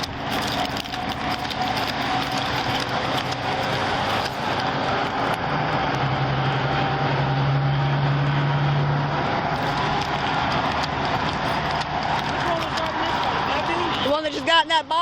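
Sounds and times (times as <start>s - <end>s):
low engine hum: 0.0s - 14.0s
road traffic rushing: 0.0s - 15.0s.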